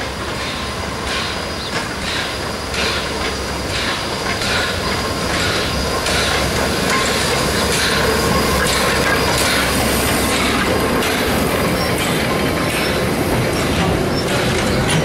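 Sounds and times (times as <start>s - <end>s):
steam locomotive chuffing: 0.0s - 15.0s
train running noise: 0.0s - 15.0s.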